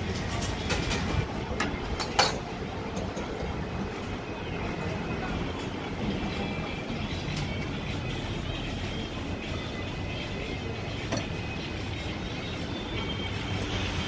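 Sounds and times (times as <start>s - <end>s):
low traffic hum: 0.0s - 14.0s.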